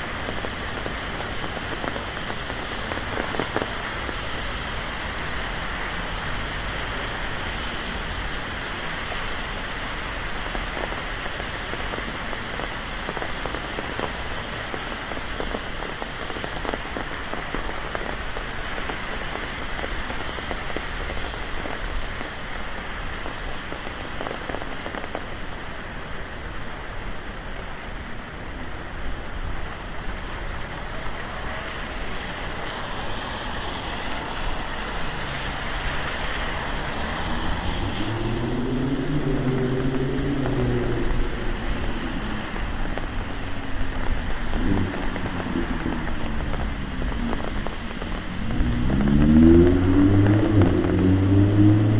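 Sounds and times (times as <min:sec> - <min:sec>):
rain hissing on street: 0:00.0 - 0:51.9.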